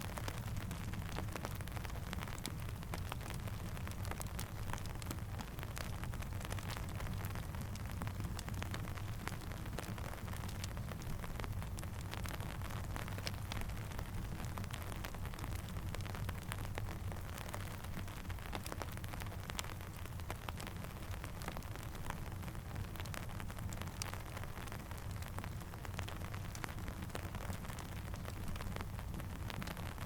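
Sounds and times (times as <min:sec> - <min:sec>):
campfire crackling: 0:00.1 - 0:30.0.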